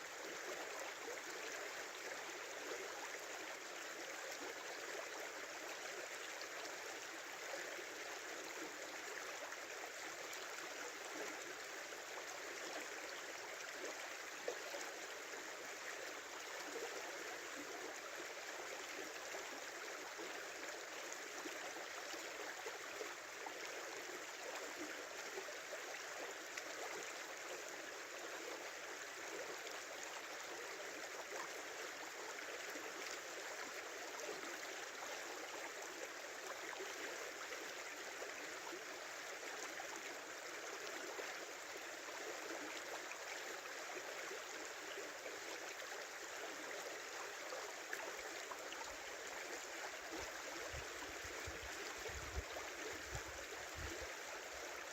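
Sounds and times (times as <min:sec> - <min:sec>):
river flowing: 0:00.0 - 0:54.9.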